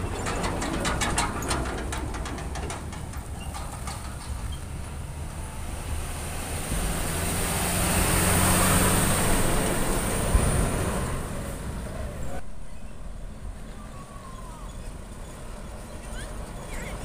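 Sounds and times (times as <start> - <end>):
truck engine hum and tyre noise: 0.0 - 17.0.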